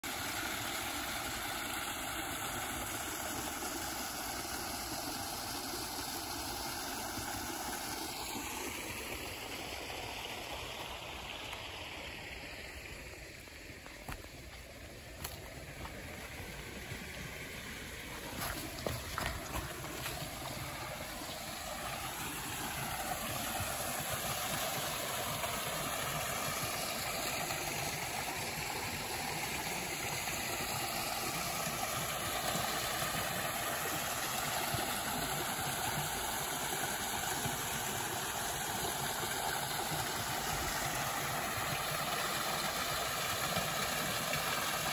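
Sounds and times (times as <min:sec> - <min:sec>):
waterfall splashing into pond: 0:00.0 - 0:44.9.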